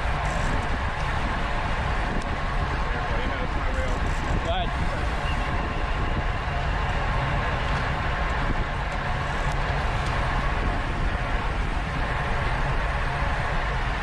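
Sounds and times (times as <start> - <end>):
bicycle road noise: 0.0 - 14.0
wind rush on microphone: 0.0 - 14.0.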